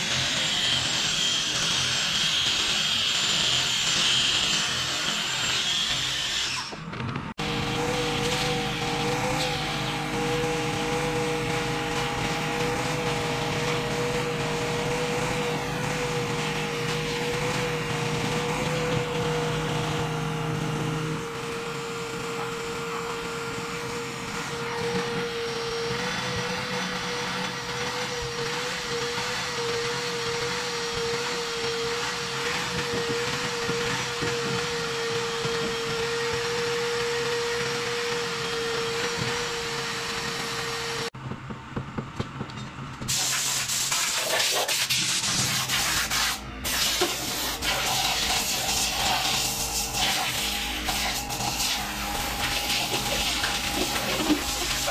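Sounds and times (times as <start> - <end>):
shop vacuum running: 0.0 - 54.9.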